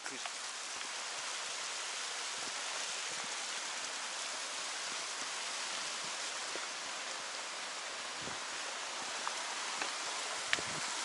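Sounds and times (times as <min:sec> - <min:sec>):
water running over rocks: 0:00.0 - 0:11.0.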